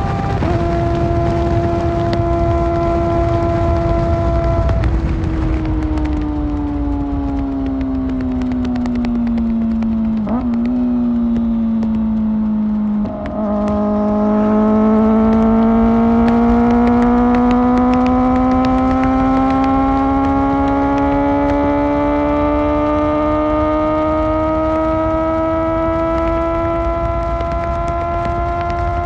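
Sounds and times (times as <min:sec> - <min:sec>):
motorcycle engine: 0:00.0 - 0:29.0.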